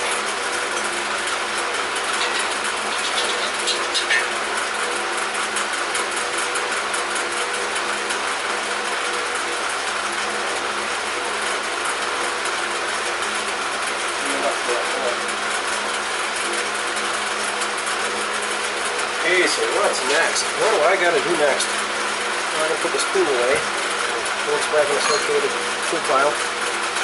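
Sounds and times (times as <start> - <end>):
electric fan humming: 0.0 - 27.0.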